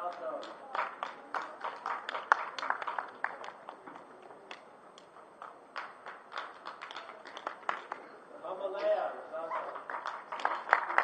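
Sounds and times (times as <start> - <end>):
audience clapping: 0.0 - 8.1, 9.6 - 11.0.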